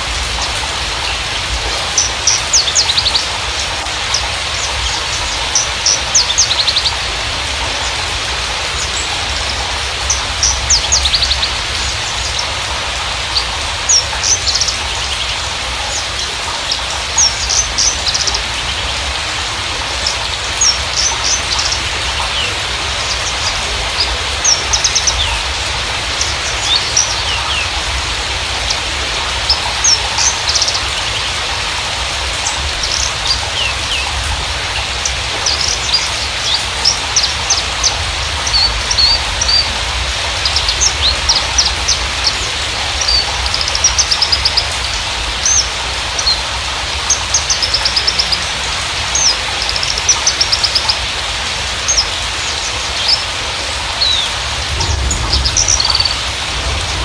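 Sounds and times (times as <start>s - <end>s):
bird chirps and trills: 0.0s - 57.0s
steady hiss: 0.0s - 57.0s.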